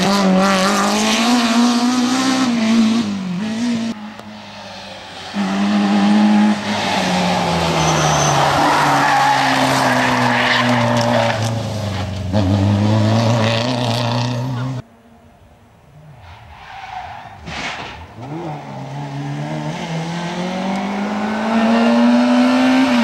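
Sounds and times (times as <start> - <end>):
rally car engines: 0.0 - 23.0.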